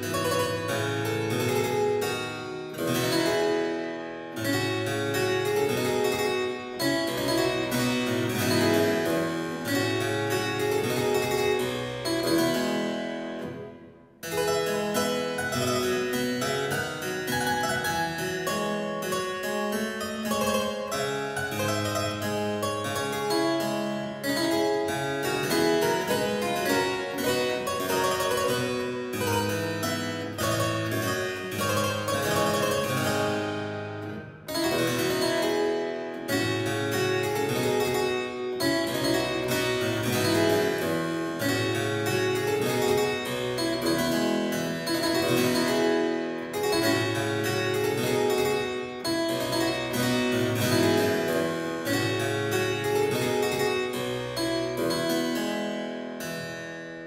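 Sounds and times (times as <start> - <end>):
solo harpsichord music: 0.0 - 57.0.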